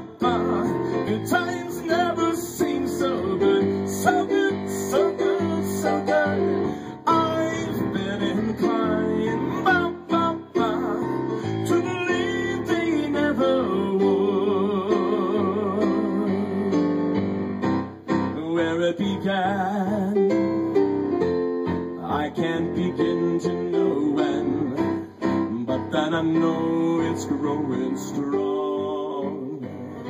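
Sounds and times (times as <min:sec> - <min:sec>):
man singing with vibrato: 0:00.0 - 0:17.2, 0:18.3 - 0:20.4, 0:22.0 - 0:30.0
piano: 0:00.0 - 0:30.0.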